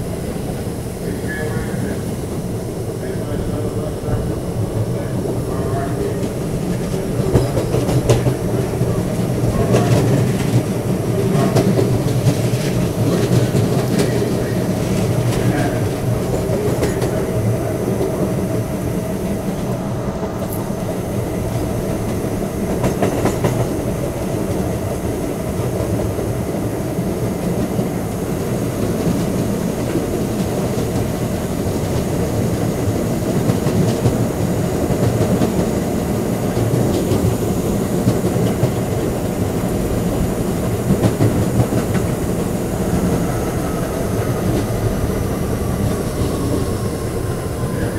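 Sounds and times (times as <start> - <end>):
subway car rumble and hum: 0.0 - 47.9.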